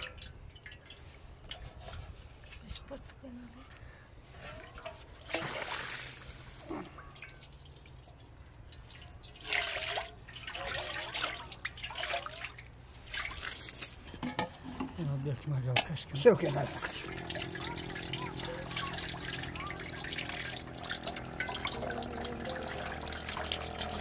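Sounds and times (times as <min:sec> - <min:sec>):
water pouring and splashing: 0:00.0 - 0:02.8, 0:04.2 - 0:14.4, 0:16.1 - 0:24.0.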